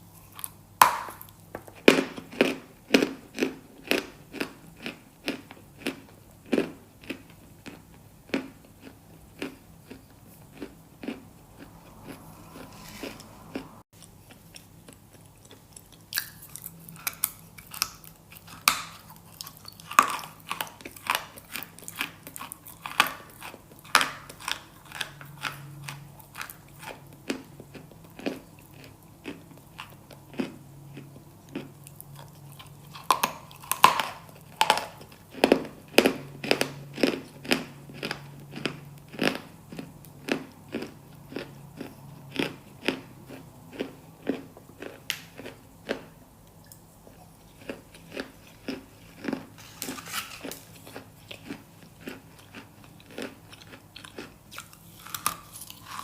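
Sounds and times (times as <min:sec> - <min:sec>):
crunchy bites and chewing: 0:00.1 - 0:46.2, 0:47.1 - 0:56.0.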